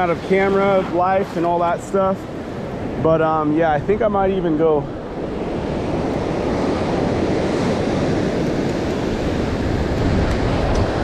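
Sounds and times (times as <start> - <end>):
ocean surf washing: 0.0 - 11.0
wind rumbling on microphone: 0.0 - 11.0.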